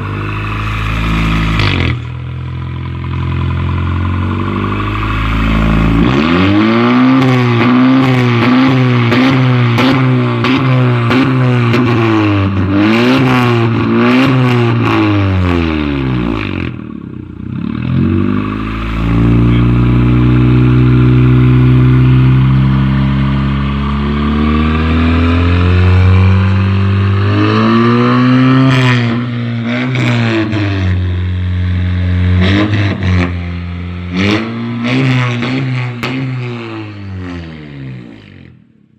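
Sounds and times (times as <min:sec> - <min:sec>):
car engine revving: 0:00.0 - 0:38.8.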